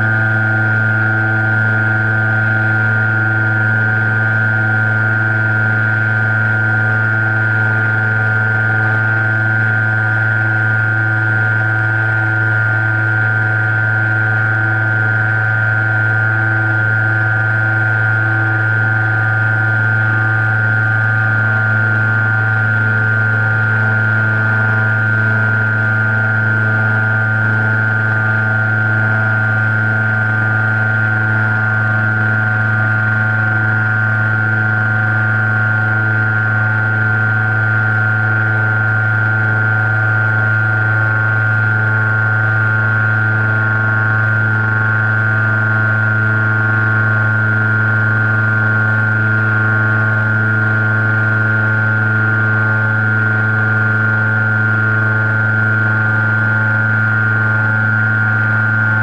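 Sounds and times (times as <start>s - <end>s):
model airplane motor droning: 0.0s - 59.0s.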